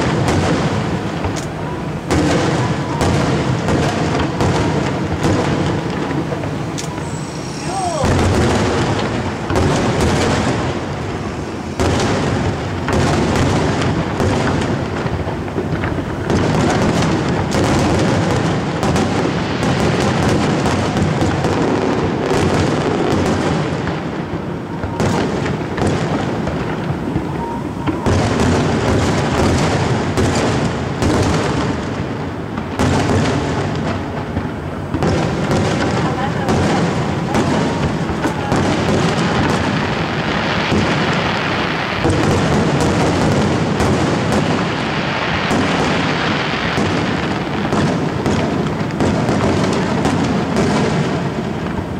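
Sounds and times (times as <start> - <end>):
fireworks bursts and booms: 0.0 - 51.9.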